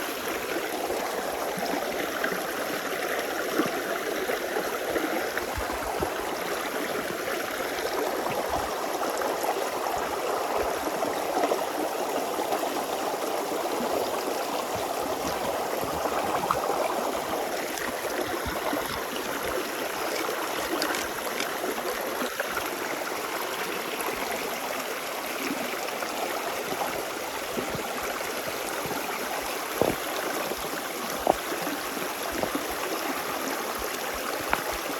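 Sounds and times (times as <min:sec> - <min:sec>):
stream babbling over stones: 0:00.0 - 0:34.9.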